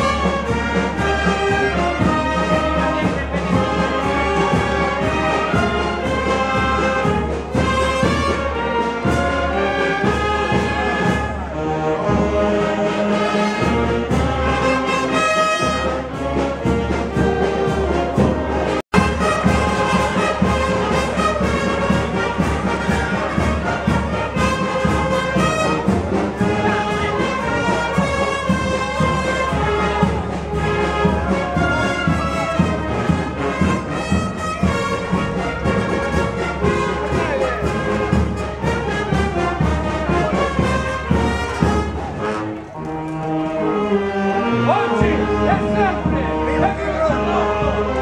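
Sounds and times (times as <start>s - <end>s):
brass band playing: 0.0s - 48.0s.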